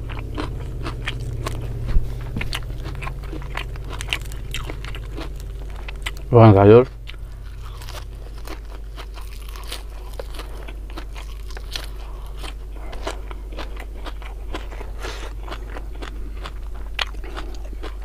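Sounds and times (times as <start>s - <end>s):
crunching raw vegetable stalks: 0.0s - 18.0s
steady low hum: 0.0s - 18.0s.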